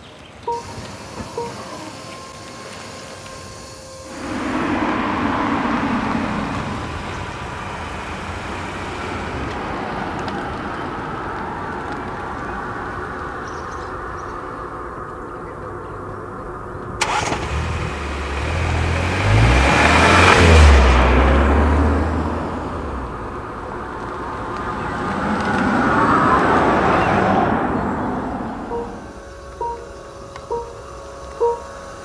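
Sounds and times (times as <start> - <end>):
cars engine and tyre rumble: 0.0 - 32.0.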